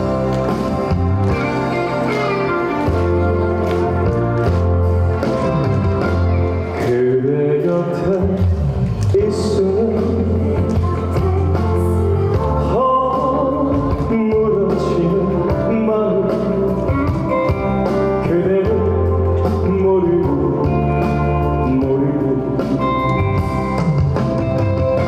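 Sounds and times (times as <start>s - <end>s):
trot music band: 0.0s - 25.0s.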